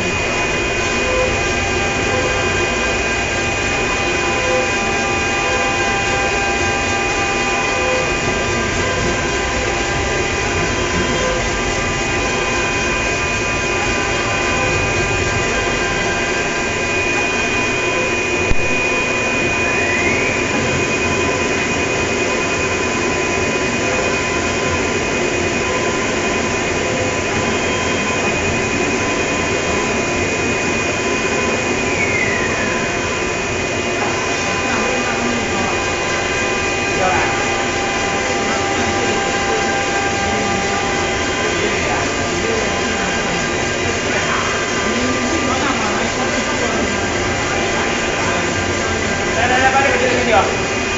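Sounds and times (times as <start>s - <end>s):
cutting machine running: 0.0s - 50.9s
high whine sliding in pitch: 0.0s - 50.9s.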